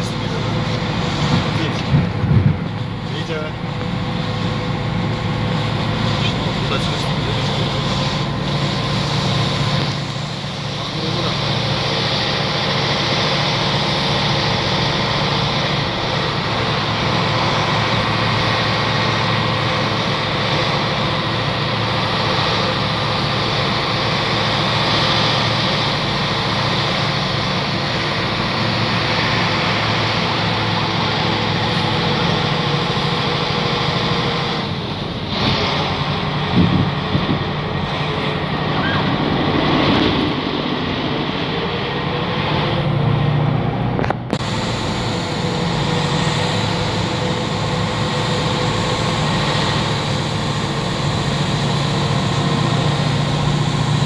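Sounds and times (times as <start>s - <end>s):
vehicle engine hum and road noise: 0.0s - 54.0s.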